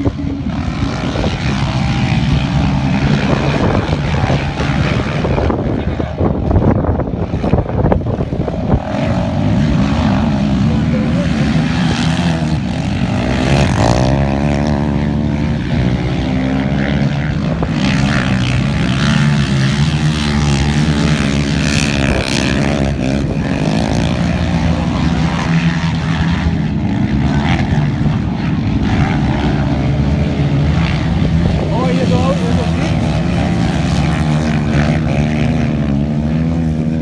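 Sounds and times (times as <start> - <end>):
atv engines revving: 0.0 - 37.0.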